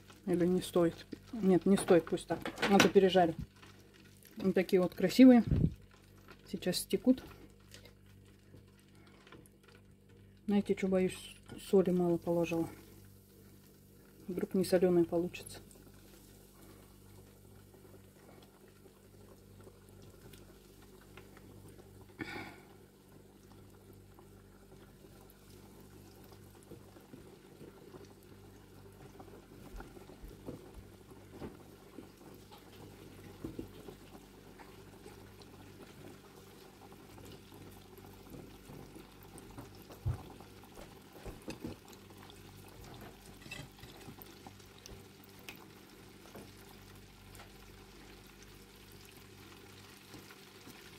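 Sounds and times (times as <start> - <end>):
low steady hum: 0.0 - 50.9
oil sizzling in deep fryer: 0.0 - 50.9.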